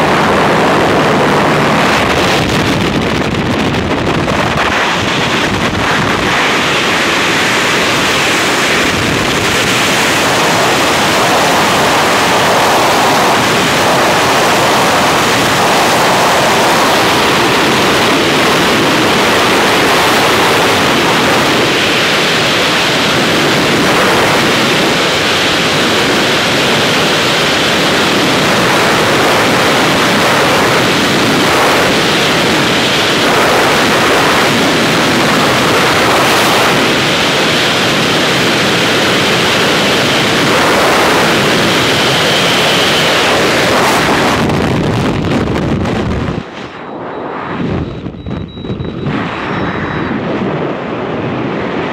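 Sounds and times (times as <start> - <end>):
freefall wind blasting microphone: 0.0 - 51.9.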